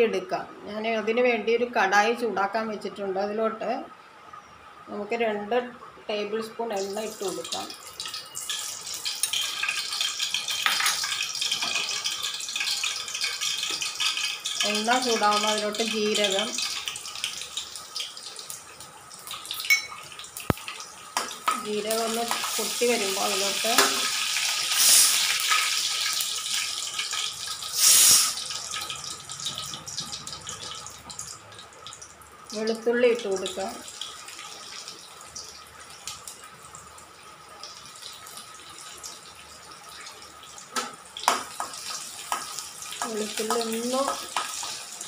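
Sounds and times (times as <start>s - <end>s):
oil crackling and sizzling in pan: 6.7s - 45.0s.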